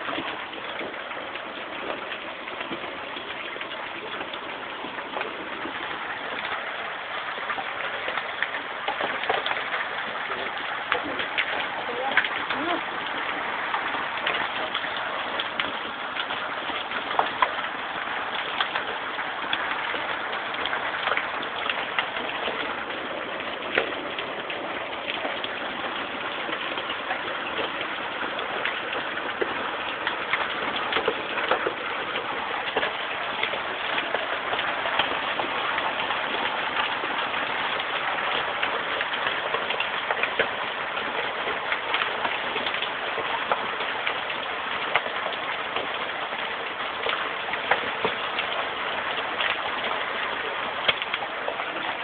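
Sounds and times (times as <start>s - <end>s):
hailstones clicking on hard surfaces: 0.0s - 52.0s
heavy rain hiss: 0.0s - 52.0s.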